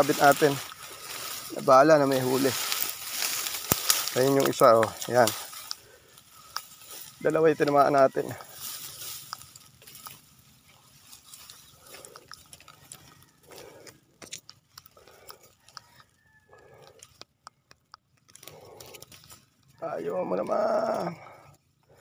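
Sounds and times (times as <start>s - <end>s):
dry reeds rustling and crackling: 0.0s - 22.0s.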